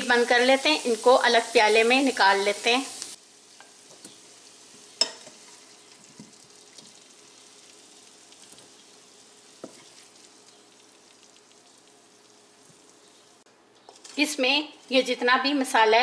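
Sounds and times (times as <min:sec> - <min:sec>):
oil sizzling in a frying pan: 0:00.0 - 0:14.2.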